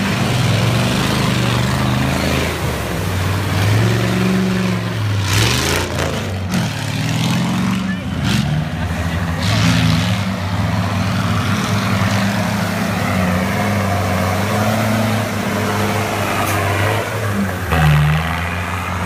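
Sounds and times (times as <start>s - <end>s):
buggy engine running hard: 0.0s - 19.0s.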